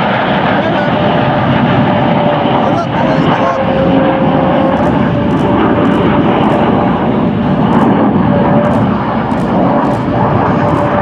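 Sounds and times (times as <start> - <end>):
jet engines flying by: 0.0 - 11.0.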